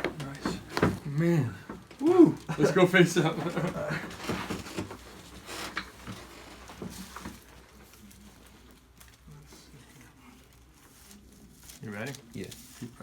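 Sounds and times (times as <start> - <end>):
soft rustling on treatment table: 0.0 - 13.0.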